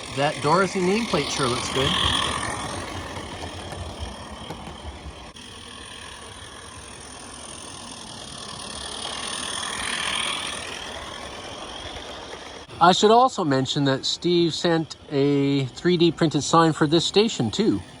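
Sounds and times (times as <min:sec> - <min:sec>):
steam locomotive hiss and rumble: 0:00.0 - 0:18.0.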